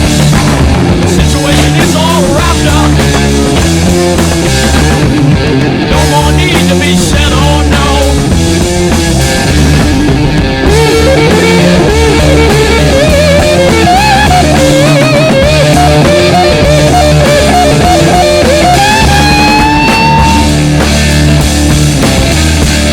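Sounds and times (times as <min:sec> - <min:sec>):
lead guitar bending notes: 0:00.0 - 0:06.6, 0:08.0 - 0:22.9
loud rock music: 0:00.0 - 0:22.9.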